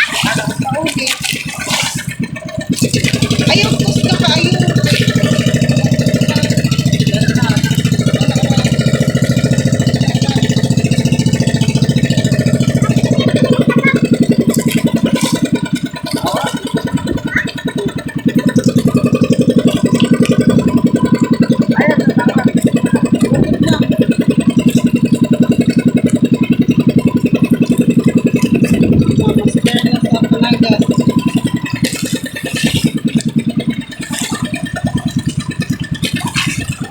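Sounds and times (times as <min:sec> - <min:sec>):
boat engine chugging: 0:00.0 - 0:36.9.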